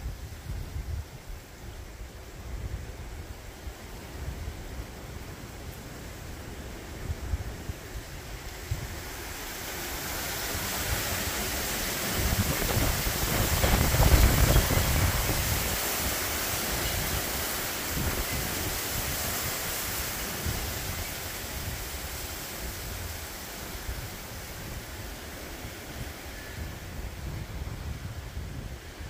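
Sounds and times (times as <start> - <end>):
wind buffeting microphone: 0.0 - 29.0
wind rushing through trees: 0.0 - 29.0.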